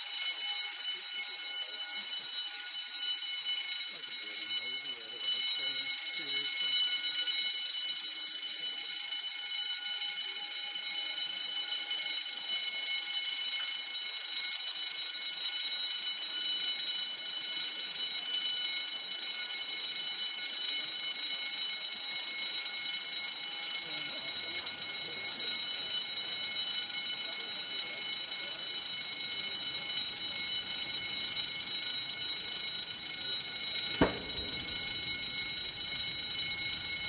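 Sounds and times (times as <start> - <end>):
fire alarm ringing: 0.0 - 37.0.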